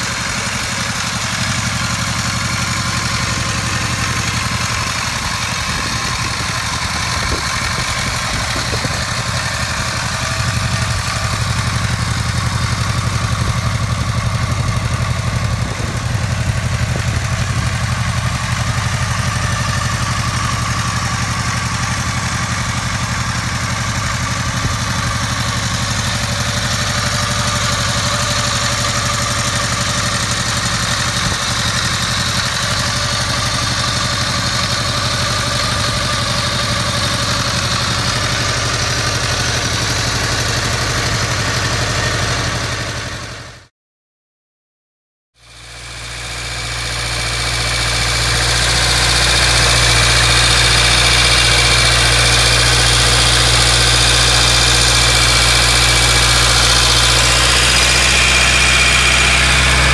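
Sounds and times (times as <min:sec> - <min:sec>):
motorcycle engine idling: 0:00.0 - 0:43.6, 0:45.4 - 0:59.9.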